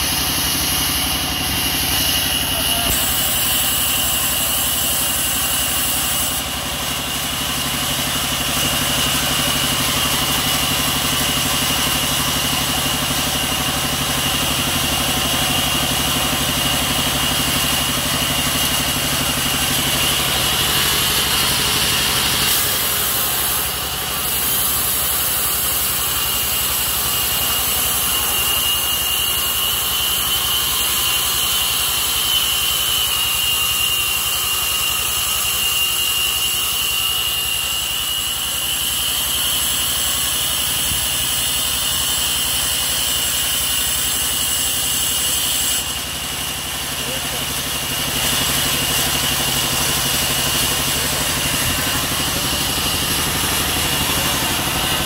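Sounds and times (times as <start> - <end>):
band saw droning and whining: 0.0 - 55.0.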